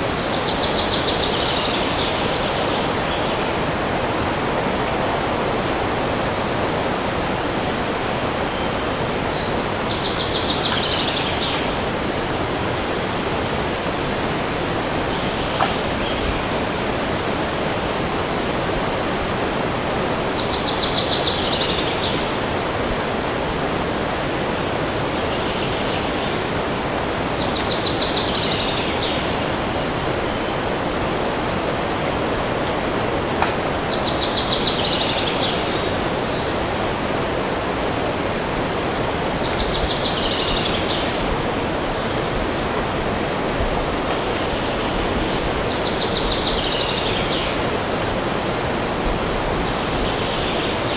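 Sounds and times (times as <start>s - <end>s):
wind in trees: 0.0s - 50.9s.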